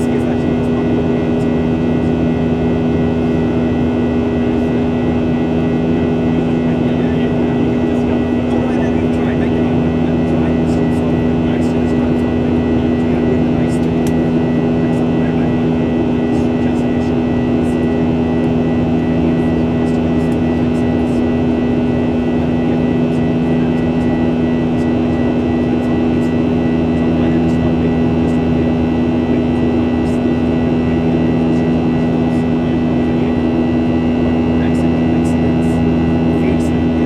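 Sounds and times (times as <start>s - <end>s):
jet engines humming: 0.0s - 37.0s.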